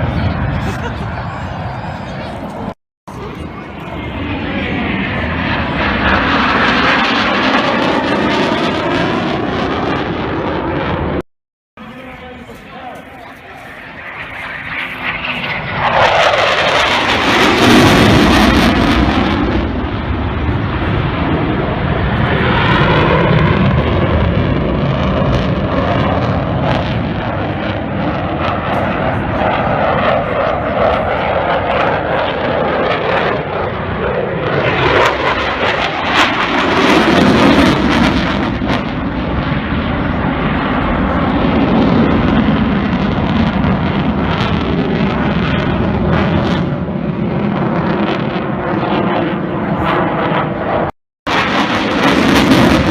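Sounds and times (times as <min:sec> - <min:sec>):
jet engines flying past: 0:00.0 - 0:11.2, 0:11.8 - 0:52.9.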